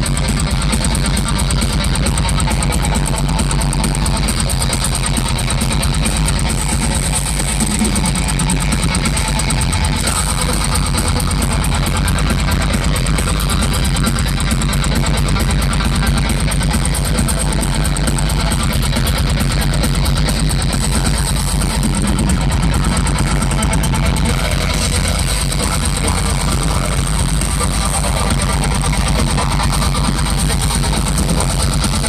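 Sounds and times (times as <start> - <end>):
distorted guitars: 0.0 - 32.0
drums: 0.0 - 32.0.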